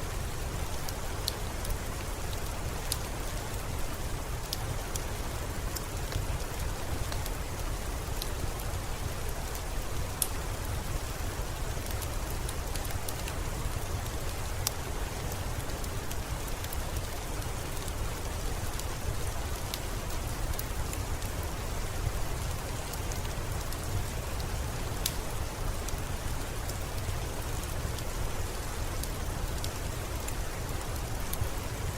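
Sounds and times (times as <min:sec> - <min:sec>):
steady rain: 0:00.0 - 0:31.9
wood fire crackling: 0:00.1 - 0:31.9.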